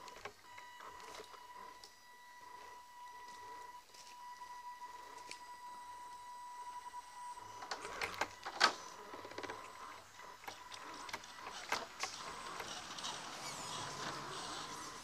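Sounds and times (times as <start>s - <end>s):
electric motor whining: 0.8s - 15.0s.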